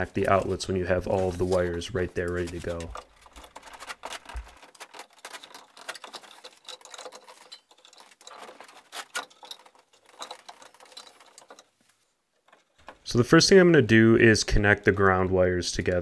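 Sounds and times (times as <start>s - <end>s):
cable scraping and rustling: 0.0s - 13.3s.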